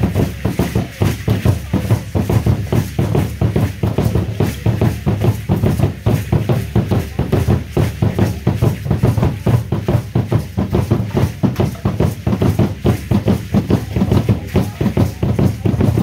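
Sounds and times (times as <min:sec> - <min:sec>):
drums beating fast rhythm: 0:00.0 - 0:16.0.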